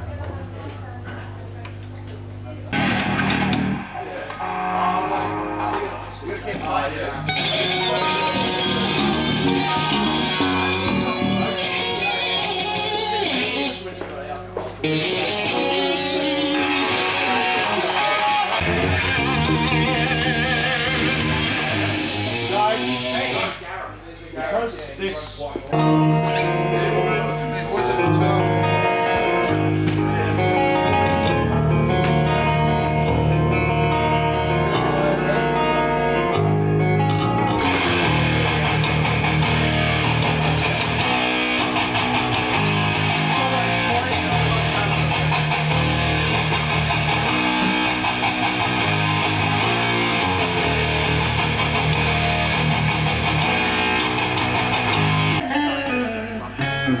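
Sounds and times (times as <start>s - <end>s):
amplified electric guitar: 1.8s - 23.6s, 25.6s - 57.0s
bass guitar low notes: 2.3s - 13.7s, 14.8s - 23.6s, 25.8s - 57.0s.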